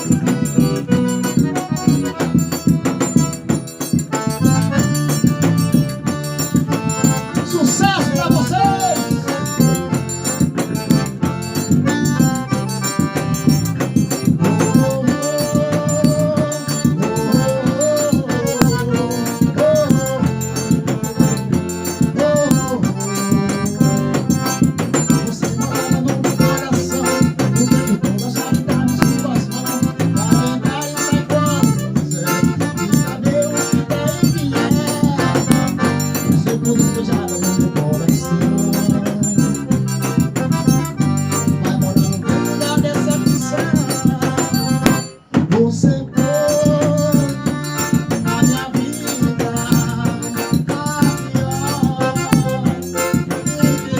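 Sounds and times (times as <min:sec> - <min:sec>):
busy percussion beat: 0:00.0 - 0:53.9
pitched melody: 0:00.0 - 0:53.9.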